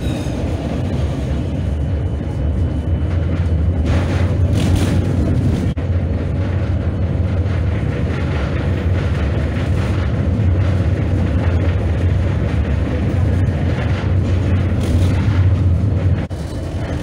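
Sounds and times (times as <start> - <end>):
tram rumbling: 0.0 - 17.0
wheels on rails: 0.0 - 17.0.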